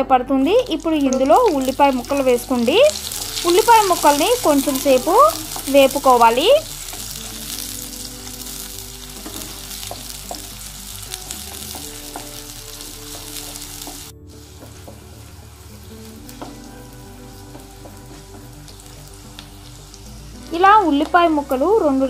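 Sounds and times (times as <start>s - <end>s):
onions sizzling in hot oil: 0.4s - 22.0s.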